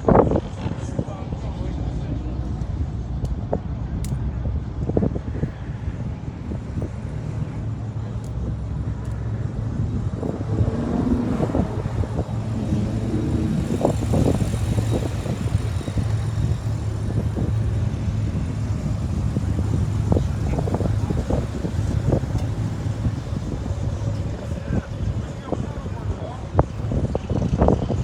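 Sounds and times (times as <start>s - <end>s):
car engine running: 0.0s - 28.0s
faint voices: 0.0s - 28.0s.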